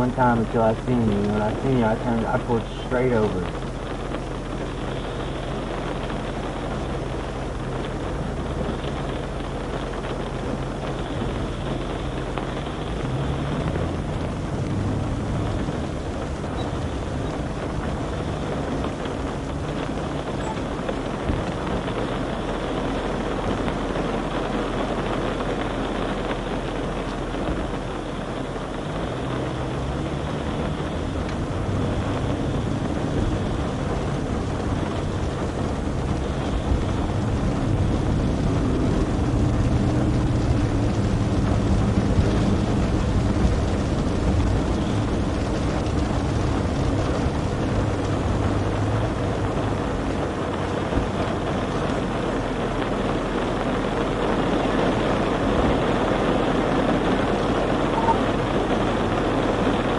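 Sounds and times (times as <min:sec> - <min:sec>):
car engine hum: 0:00.0 - 0:59.9
road noise: 0:00.0 - 0:59.9.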